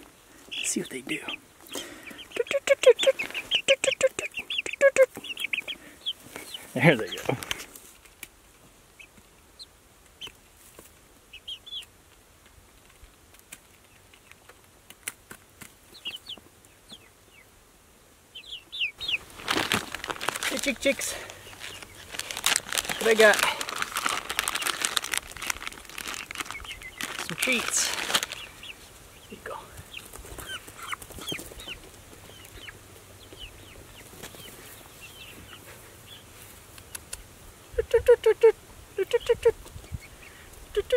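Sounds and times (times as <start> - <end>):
chicks peeping: 0.0 - 17.6, 18.2 - 40.9.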